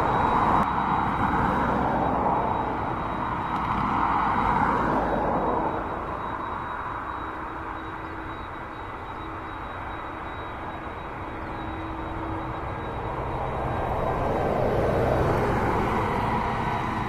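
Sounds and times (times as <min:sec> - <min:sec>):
jet airliner approaching: 0:00.0 - 0:17.0.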